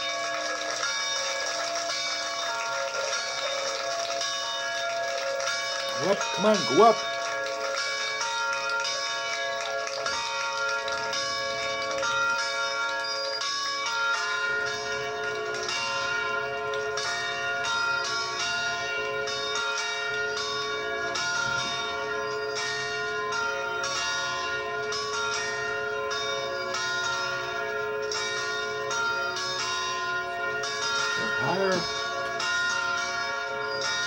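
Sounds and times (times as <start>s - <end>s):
church bells ringing: 0.0s - 34.0s.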